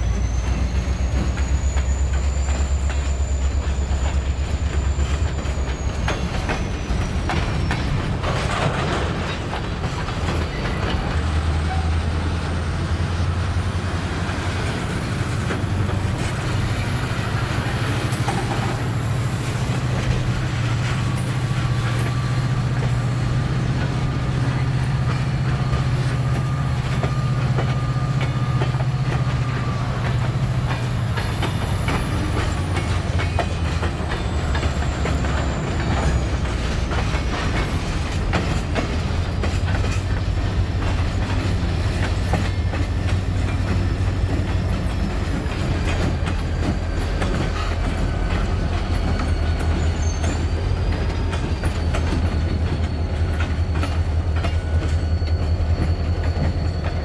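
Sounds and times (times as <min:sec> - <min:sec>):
train wheels clanking over rail joints: 0:00.0 - 0:57.0.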